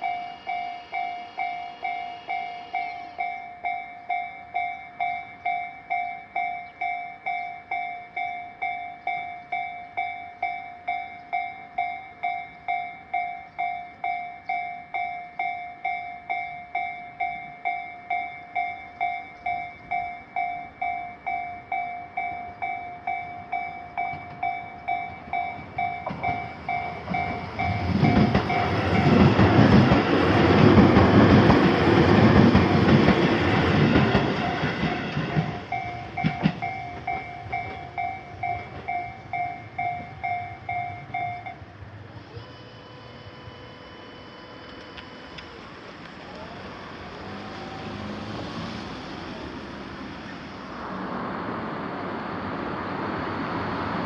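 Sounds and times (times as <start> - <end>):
railroad crossing bell dinging: 0.0 - 50.8
train passing: 0.0 - 54.0.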